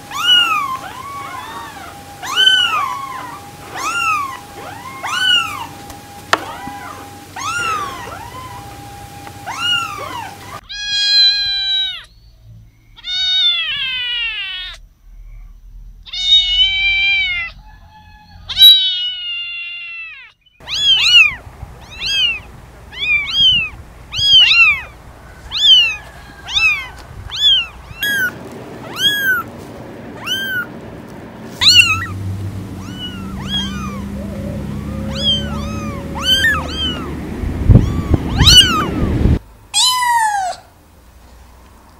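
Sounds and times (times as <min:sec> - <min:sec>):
kittens meowing: 0:00.0 - 0:12.2, 0:13.0 - 0:14.8, 0:16.0 - 0:29.6, 0:30.2 - 0:30.8, 0:31.6 - 0:40.7.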